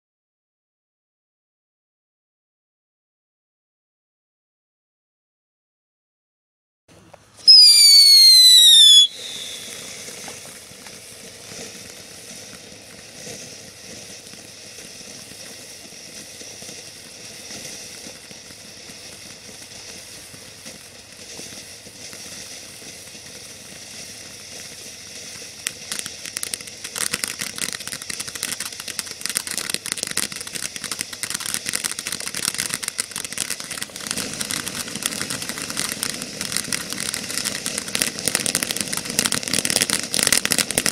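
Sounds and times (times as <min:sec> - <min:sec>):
firework crackling: 0:06.9 - 0:40.9
firework fountain hissing: 0:06.9 - 0:40.9
falling firework whistle: 0:07.3 - 0:40.9.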